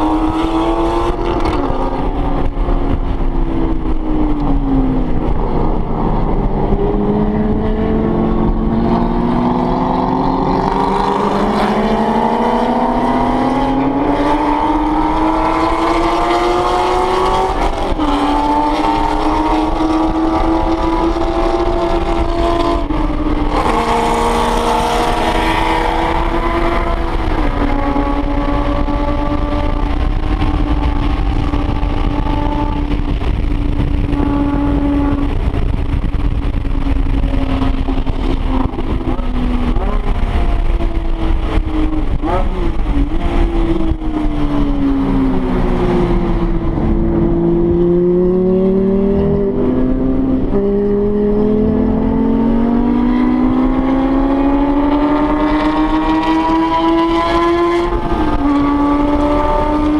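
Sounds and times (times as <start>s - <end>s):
car engine revving at speed: 0.0s - 59.9s.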